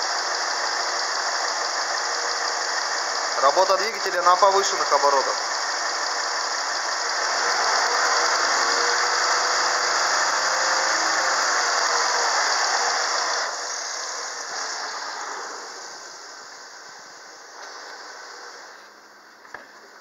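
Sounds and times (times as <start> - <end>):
engine running at raised revs: 0.0 - 18.9.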